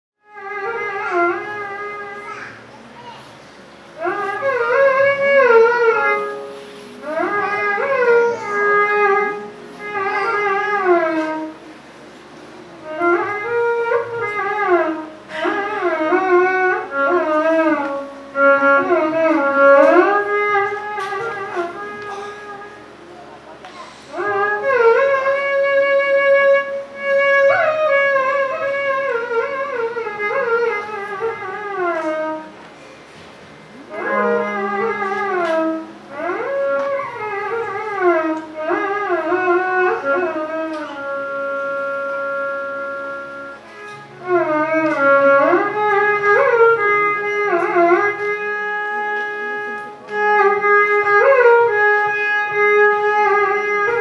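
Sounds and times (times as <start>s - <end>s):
solo violin sliding notes: 3.4s - 32.7s, 33.6s - 54.0s.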